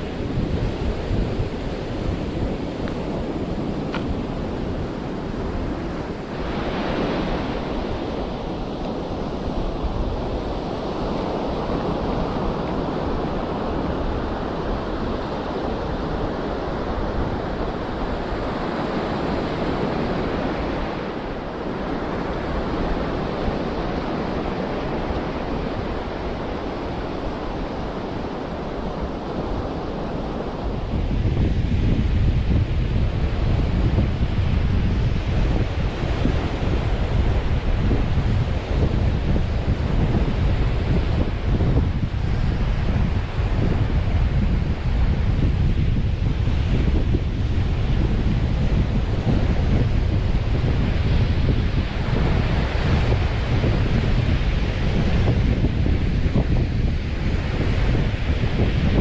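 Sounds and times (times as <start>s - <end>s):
ocean surf on a beach: 0.0s - 59.0s
wind buffeting microphone: 0.0s - 59.0s.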